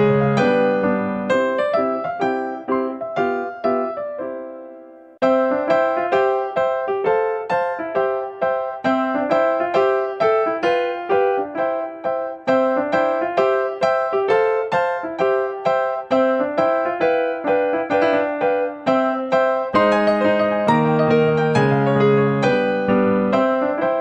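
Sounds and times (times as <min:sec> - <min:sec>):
piano single notes: 0:00.0 - 0:24.0.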